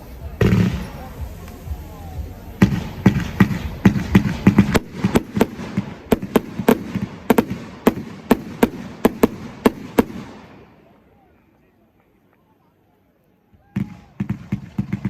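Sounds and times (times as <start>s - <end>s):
fireworks bangs: 0.0s - 11.1s, 13.7s - 15.0s
fireworks crackle: 0.0s - 11.3s, 13.8s - 15.0s.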